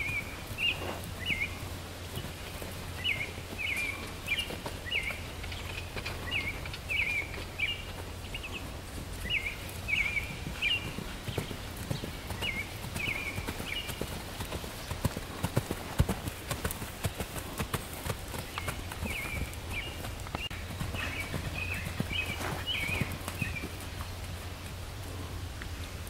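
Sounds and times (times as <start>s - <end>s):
bird chirping: 0.0s - 15.0s, 18.3s - 24.5s
horse hooves on dirt: 0.0s - 26.0s.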